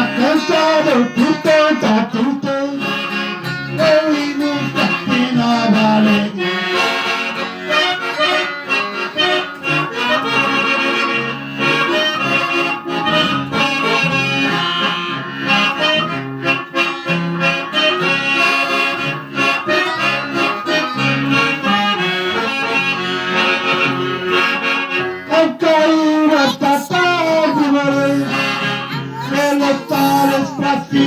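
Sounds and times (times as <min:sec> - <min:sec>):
accordion playing: 0:00.0 - 0:31.0.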